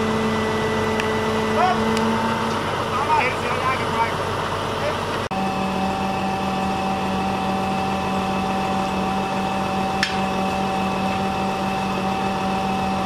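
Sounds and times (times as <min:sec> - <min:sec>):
crane engine and hydraulic whine: 0:00.0 - 0:13.0.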